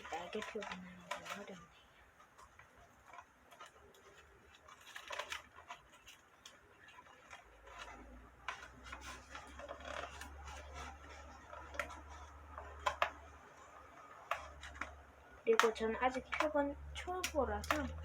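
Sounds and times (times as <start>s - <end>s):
small handling clicks and scratches: 0.0s - 18.0s.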